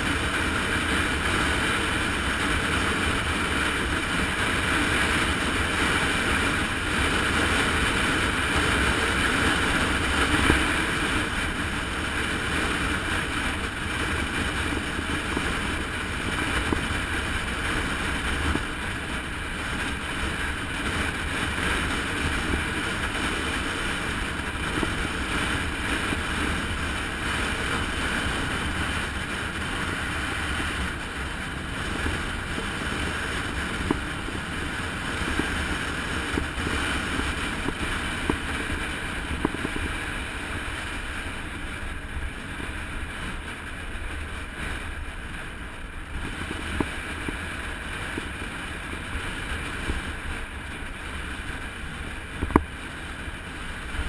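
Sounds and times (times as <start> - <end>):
road noise: 0.0 - 54.0
wind rush over microphone: 0.0 - 54.0.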